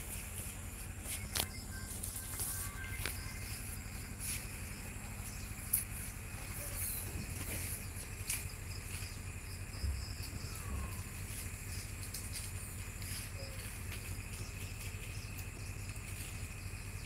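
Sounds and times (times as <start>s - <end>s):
boat engine humming: 0.0s - 17.0s
insects trilling: 0.0s - 17.0s.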